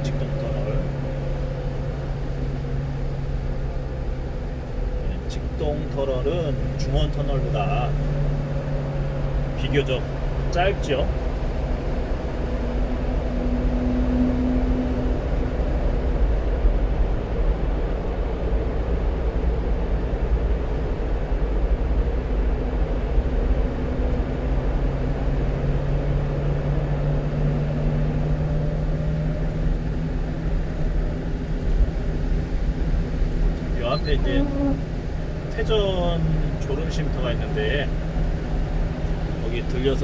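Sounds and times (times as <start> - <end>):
low engine hum: 0.0 - 40.0
road noise inside truck cab: 0.0 - 40.0.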